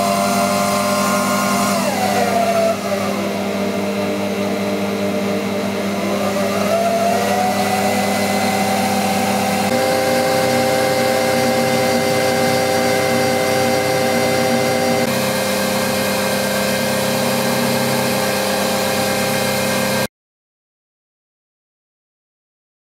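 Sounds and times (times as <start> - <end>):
milling machine motor running: 0.0 - 20.1.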